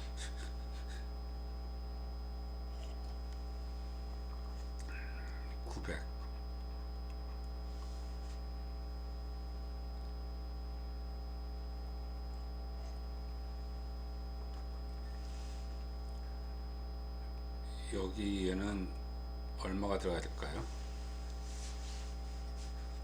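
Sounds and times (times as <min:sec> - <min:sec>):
electrical mains hum: 0:00.0 - 0:23.0
thin high whine: 0:00.0 - 0:23.0.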